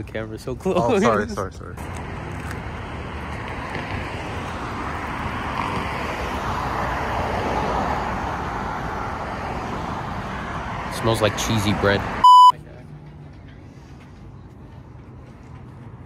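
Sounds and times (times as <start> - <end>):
cars driving past: 1.8 - 16.0.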